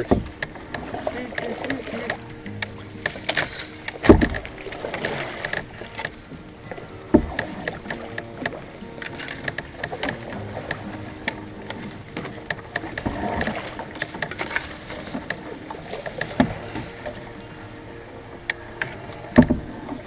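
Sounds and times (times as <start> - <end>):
knocks and clicks against canoe: 0.0 - 20.0
paddle strokes splashing: 0.0 - 20.0.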